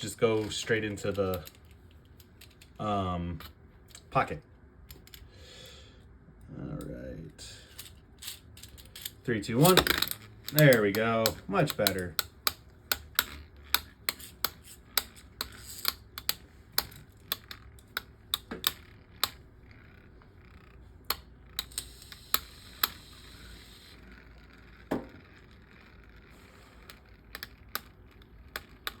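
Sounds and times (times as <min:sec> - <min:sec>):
spinning tops clicking: 0:00.0 - 0:04.1, 0:07.6 - 0:29.0.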